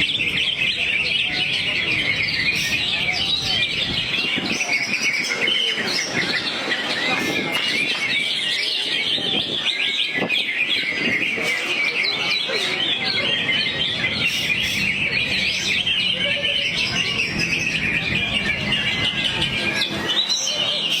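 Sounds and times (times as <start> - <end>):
bird chirping and trilling: 0.0 - 21.0.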